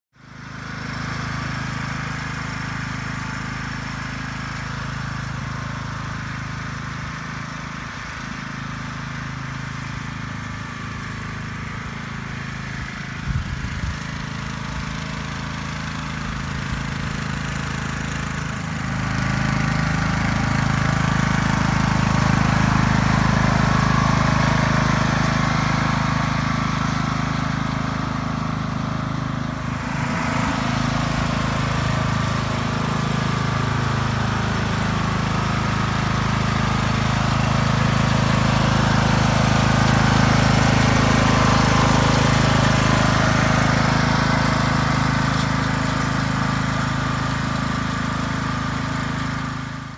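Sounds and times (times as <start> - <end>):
lawn mower engine running: 0.2 - 49.9.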